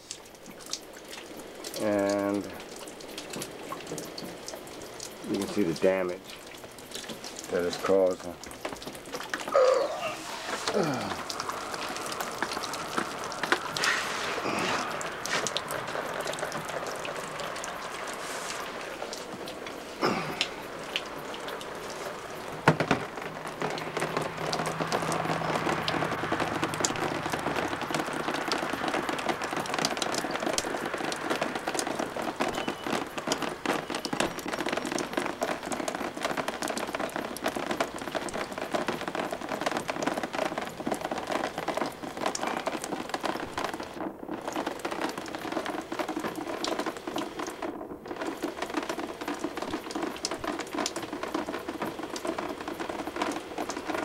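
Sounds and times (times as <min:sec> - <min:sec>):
water pattering and splashing: 0:00.0 - 0:54.0.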